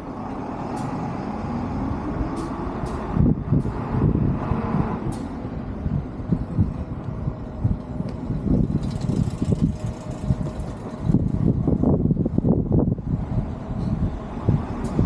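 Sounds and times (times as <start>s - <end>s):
vehicle engine rumble: 0.0s - 15.0s
wind gusts on microphone: 0.0s - 15.0s.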